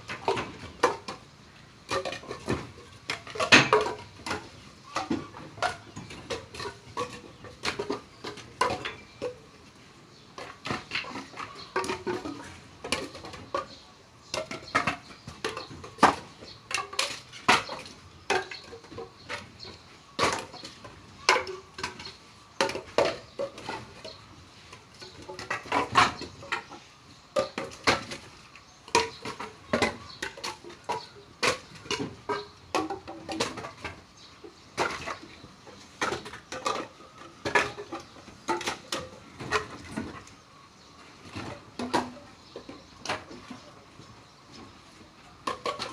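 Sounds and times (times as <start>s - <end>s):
timber pieces knocking and clattering: 0.0s - 45.9s.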